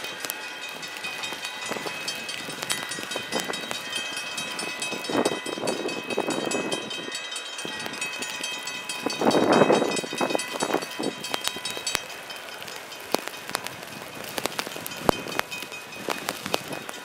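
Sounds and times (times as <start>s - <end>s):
level-crossing warning bell: 0.0s - 17.0s.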